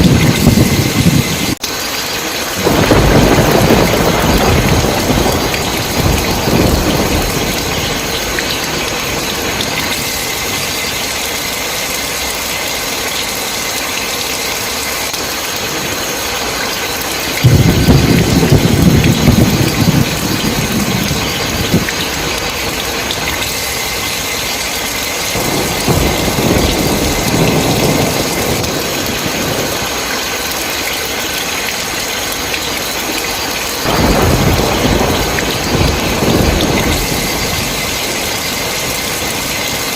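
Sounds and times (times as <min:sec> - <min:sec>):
thunder rumbling: 0:00.0 - 0:01.6, 0:02.4 - 0:12.4, 0:16.0 - 0:39.9
heavy rain: 0:00.0 - 0:39.9.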